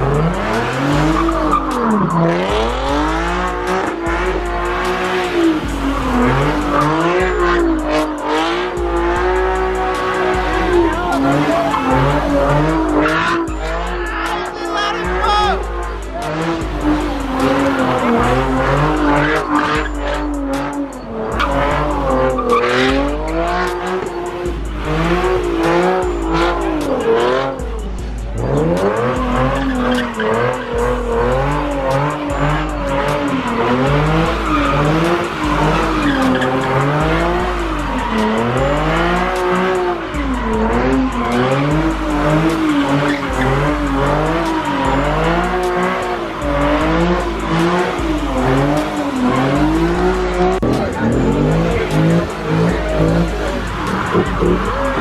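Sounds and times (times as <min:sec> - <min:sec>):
car engine revving: 0:00.0 - 0:55.0
thumping bass beat: 0:00.0 - 0:55.0
tyres squealing on pavement: 0:00.0 - 0:55.0.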